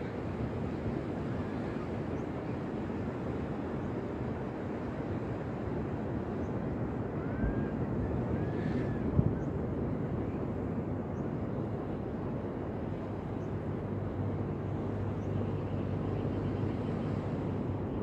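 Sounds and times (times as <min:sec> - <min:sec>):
waves washing on a beach: 0:00.0 - 0:18.0
wind on microphone: 0:00.0 - 0:18.0.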